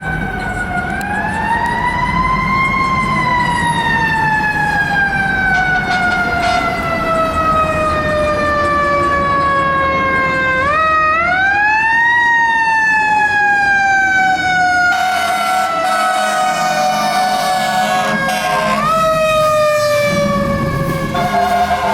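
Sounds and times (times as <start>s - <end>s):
fire engine siren wailing: 0.0s - 21.9s.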